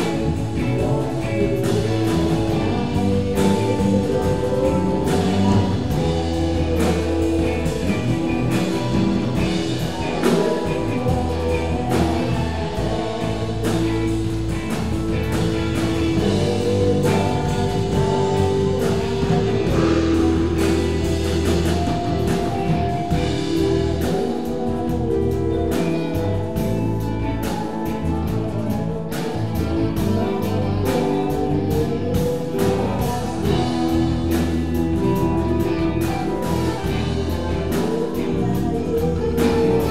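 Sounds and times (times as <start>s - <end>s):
rock band jamming: 0.0s - 39.9s.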